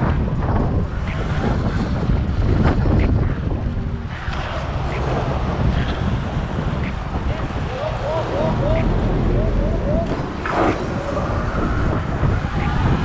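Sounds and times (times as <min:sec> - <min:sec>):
road and traffic noise: 0:00.0 - 0:13.0
wind buffeting microphone: 0:00.0 - 0:13.0.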